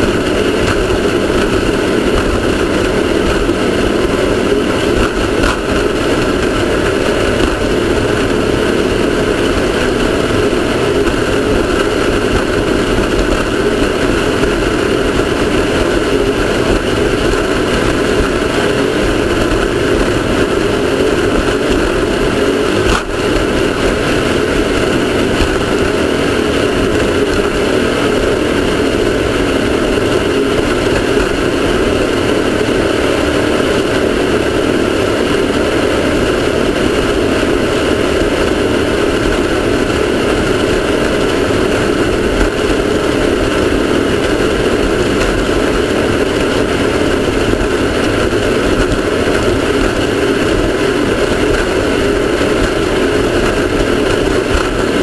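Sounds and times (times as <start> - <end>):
race car engine roaring: 0.0 - 55.0.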